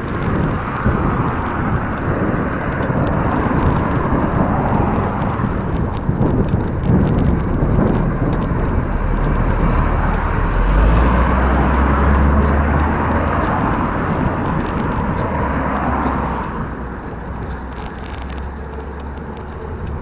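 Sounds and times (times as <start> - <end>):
car passing: 0.0 - 20.0
road traffic noise: 0.0 - 20.0
wind rumbling on microphone: 0.0 - 20.0.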